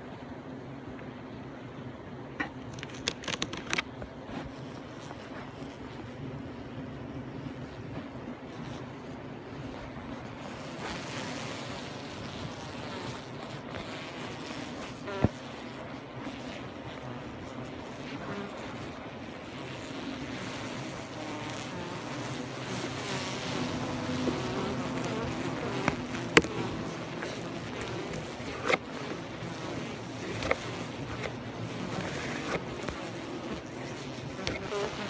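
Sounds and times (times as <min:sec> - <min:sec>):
bees buzzing: 0:04.2 - 0:35.0.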